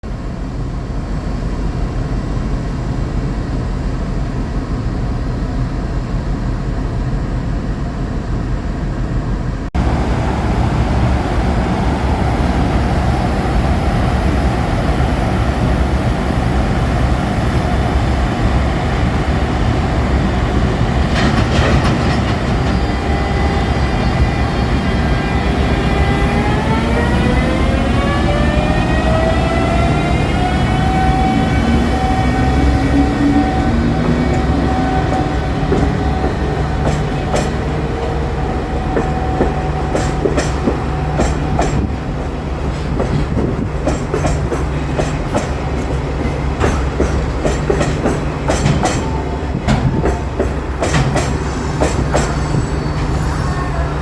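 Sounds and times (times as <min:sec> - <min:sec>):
electric locomotive rumble: 0:00.0 - 0:54.0.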